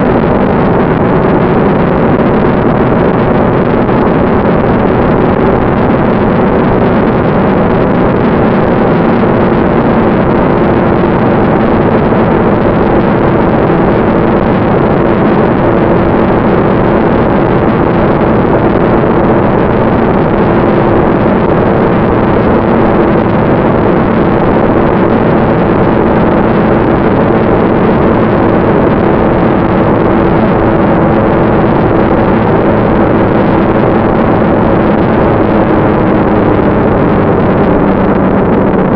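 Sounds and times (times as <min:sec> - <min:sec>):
model jet ducted fan whine: 0:00.0 - 0:38.9.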